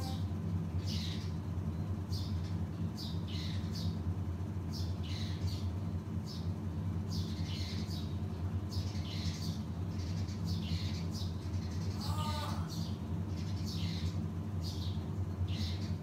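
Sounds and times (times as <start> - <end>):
sparrows chirping: 0.0 - 16.0
steady low hum: 0.0 - 16.0.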